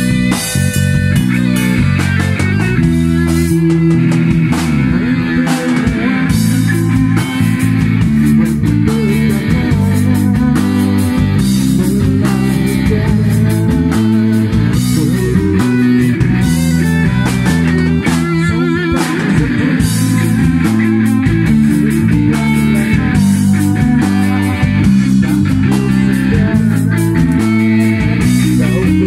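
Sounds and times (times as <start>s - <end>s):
drum kit: 0.0s - 29.0s
electric guitar through amplifier: 0.0s - 29.0s.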